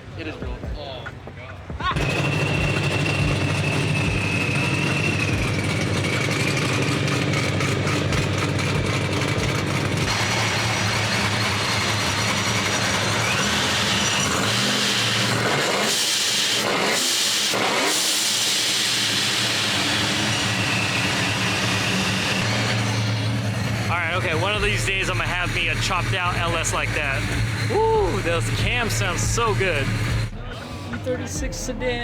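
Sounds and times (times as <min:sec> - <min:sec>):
engine revving: 0:01.8 - 0:32.0
loud lopey engine idling: 0:01.9 - 0:32.0.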